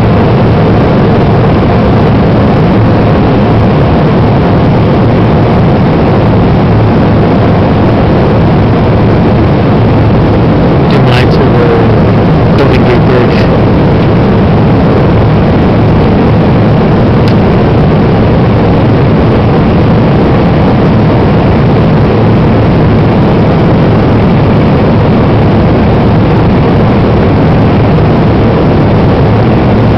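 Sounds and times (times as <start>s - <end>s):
jet cabin engine noise: 0.0s - 29.9s.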